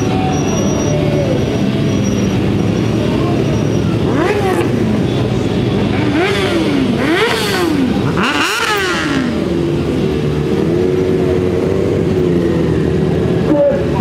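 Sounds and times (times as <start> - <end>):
motorcycle engine revving: 0.0 - 14.0
motorcycle engines idling: 0.0 - 14.0.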